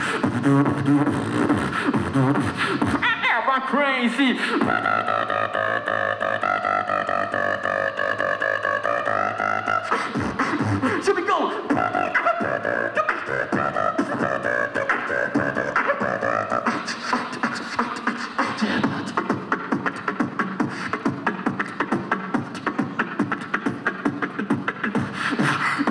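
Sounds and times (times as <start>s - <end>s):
beatboxing through a microphone: 0.0s - 25.9s.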